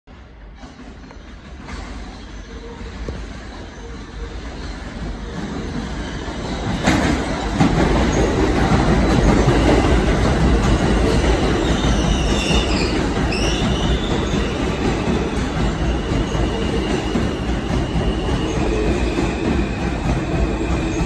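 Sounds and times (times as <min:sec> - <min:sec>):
subway train wheels rumbling: 0:00.1 - 0:21.0.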